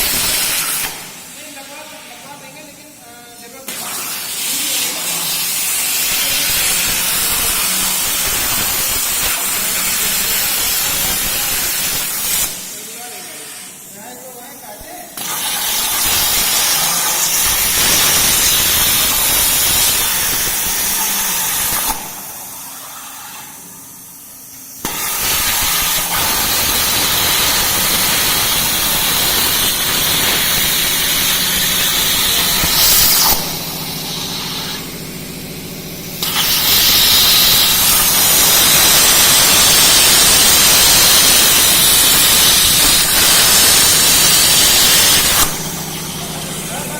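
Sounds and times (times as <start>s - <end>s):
plasma cutter hissing: 0.0s - 46.9s.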